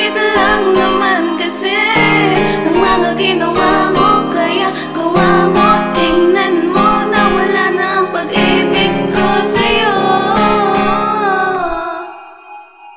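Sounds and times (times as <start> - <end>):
woman singing: 0.0 - 12.6.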